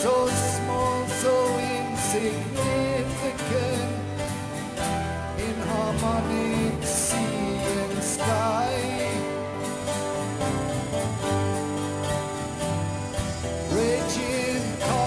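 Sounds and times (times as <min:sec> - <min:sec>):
person singing: 0:00.0 - 0:11.5, 0:12.4 - 0:15.0
guitar chords: 0:00.0 - 0:15.0.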